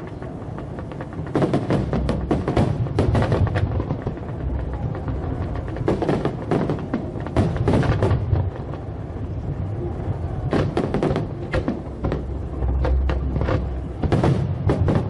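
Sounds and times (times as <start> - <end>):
deep rumble: 0.0 - 15.0
fireworks banging: 0.0 - 15.0.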